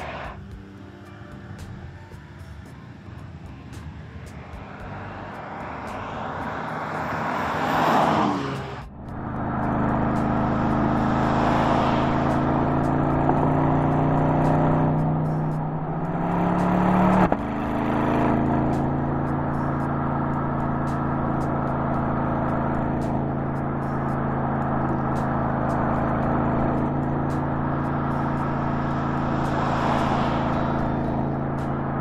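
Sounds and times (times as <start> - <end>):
car passing whoosh: 0.0 - 0.5, 2.8 - 32.0
car engine accelerating: 0.0 - 32.0.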